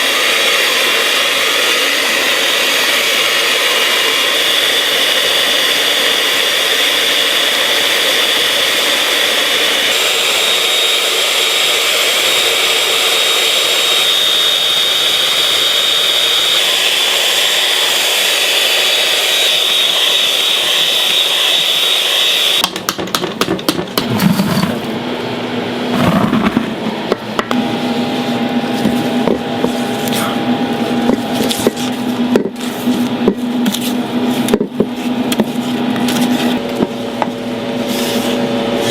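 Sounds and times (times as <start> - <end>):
kitchen machine whirring: 0.0 - 38.9.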